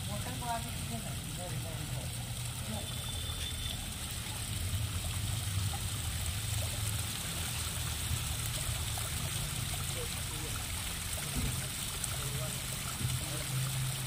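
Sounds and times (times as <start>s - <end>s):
water trickling into pond: 0.0s - 14.0s.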